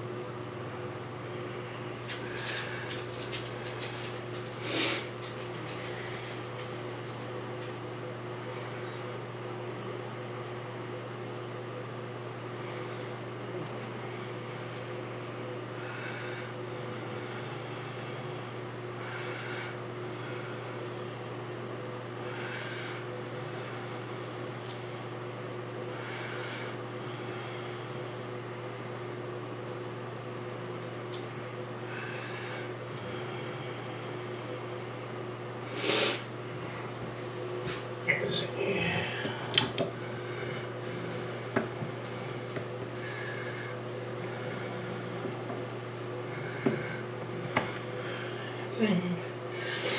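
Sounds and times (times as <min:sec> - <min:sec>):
low mechanical hum: 0:00.0 - 0:49.9.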